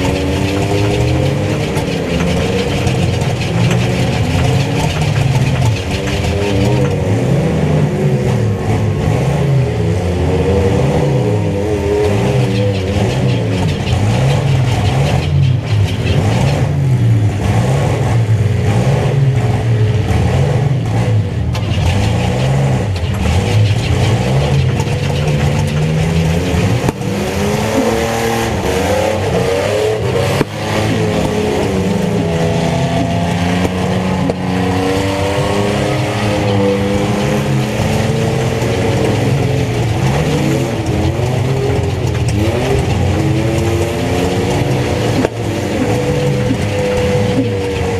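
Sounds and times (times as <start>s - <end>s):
truck engines revving: 0.0s - 47.9s.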